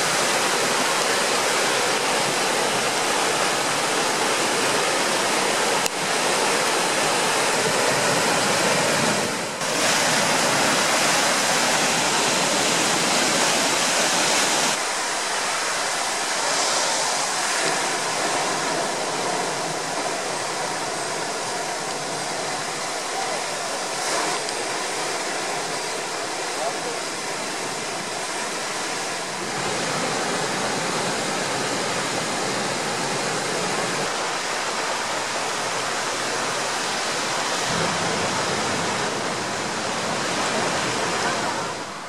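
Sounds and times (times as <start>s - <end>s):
river rushing over rocks: 0.0s - 42.0s.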